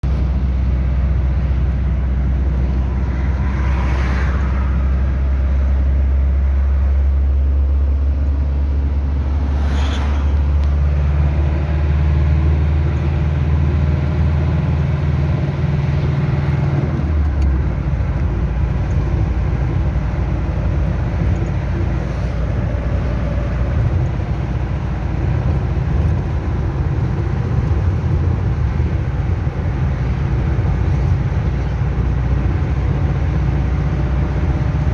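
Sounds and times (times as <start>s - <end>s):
diesel engine running: 0.0s - 3.8s, 4.4s - 34.9s.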